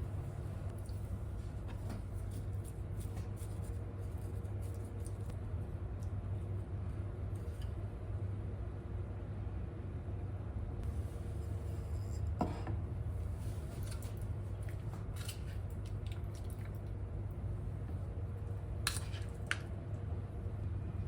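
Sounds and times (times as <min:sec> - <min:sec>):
range hood fan humming: 0:00.0 - 0:21.0.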